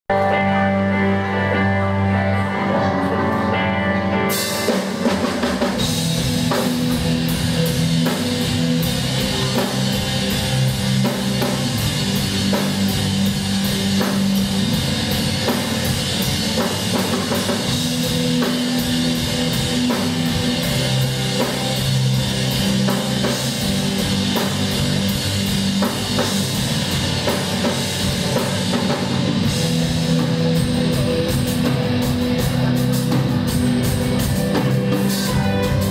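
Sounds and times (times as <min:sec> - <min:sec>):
loud rock music: 0:00.0 - 0:35.9
keyboard chords: 0:00.1 - 0:35.9
drum kit with cymbals: 0:04.2 - 0:35.9.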